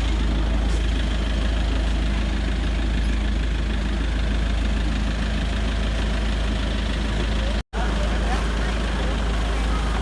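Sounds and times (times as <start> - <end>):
road noise: 0.0 - 10.0
van engine rumble: 0.0 - 10.0.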